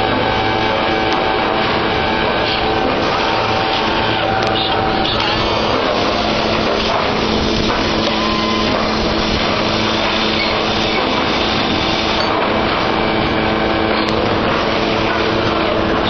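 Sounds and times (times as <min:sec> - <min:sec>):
low hum: 0:00.0 - 0:16.0
machinery running: 0:00.0 - 0:16.0.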